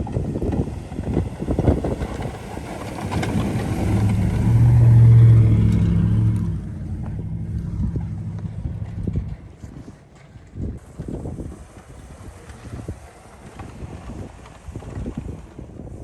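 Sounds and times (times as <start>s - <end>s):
motor vehicle passing by: 0.0s - 16.0s
wind buffeting microphone: 0.0s - 16.0s.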